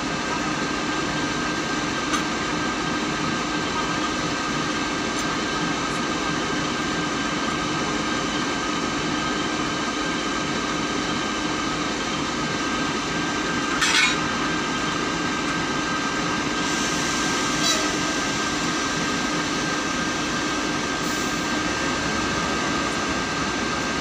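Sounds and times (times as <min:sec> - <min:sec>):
diesel locomotive engine idling: 0:00.0 - 0:24.0.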